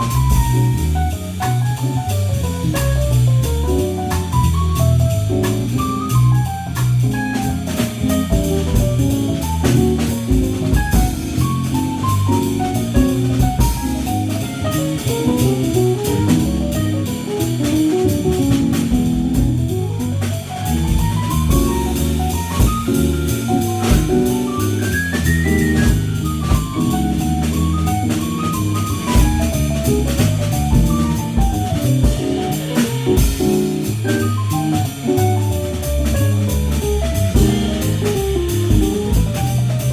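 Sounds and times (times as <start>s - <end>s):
cymbal-driven drums: 0.0s - 39.9s
keyboard melodic lines: 0.0s - 39.9s
walking bass: 0.0s - 39.9s.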